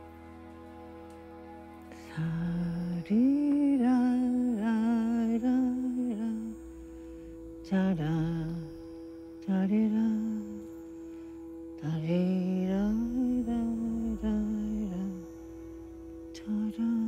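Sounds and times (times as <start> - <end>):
sustained drone note: 0.0 - 17.0
woman humming a slow melody: 0.0 - 17.0.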